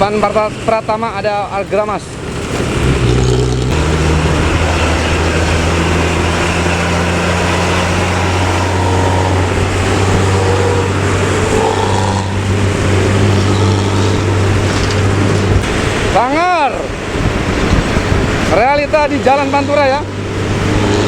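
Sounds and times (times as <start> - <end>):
diesel bus engine drone: 0.0 - 21.0
road and traffic noise: 0.0 - 21.0.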